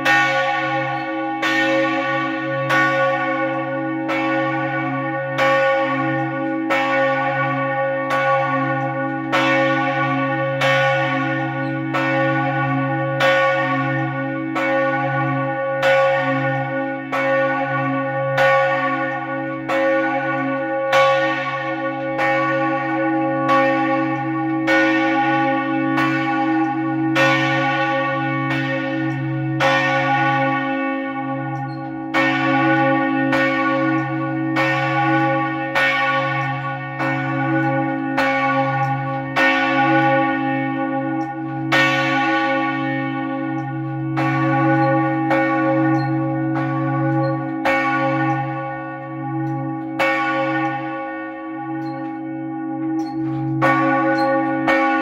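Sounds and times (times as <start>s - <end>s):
church bell ringing: 0.0s - 55.0s.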